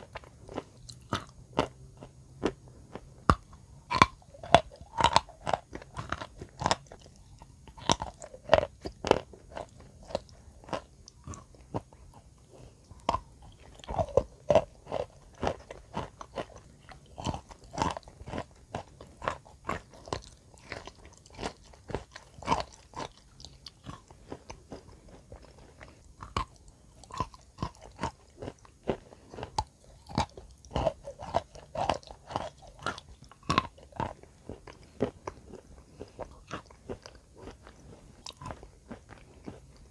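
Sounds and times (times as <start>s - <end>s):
chalk being chewed: 0.0s - 39.9s.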